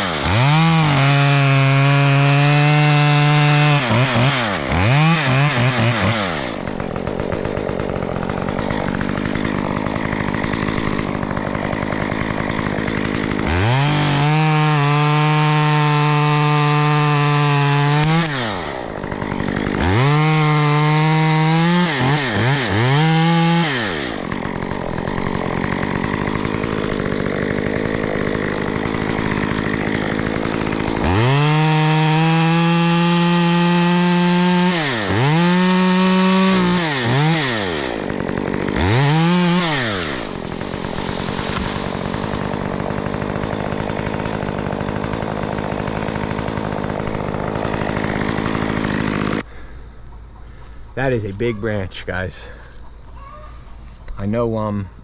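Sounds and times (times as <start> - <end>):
chainsaw cutting wood: 0.0 - 51.4.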